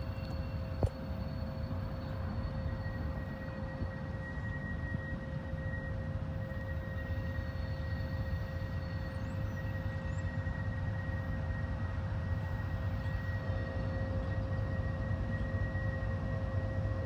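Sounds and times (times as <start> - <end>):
diesel locomotive engine drone: 0.0 - 17.0
high steady whine: 0.0 - 17.0.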